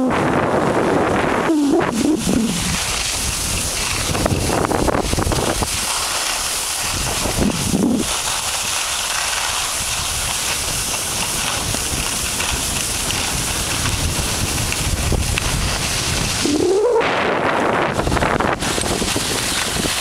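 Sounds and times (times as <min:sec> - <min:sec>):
wind rushing on microphone: 0:00.0 - 0:06.0, 0:06.8 - 0:08.4, 0:09.5 - 0:20.0
skis sliding over snow: 0:00.3 - 0:20.0.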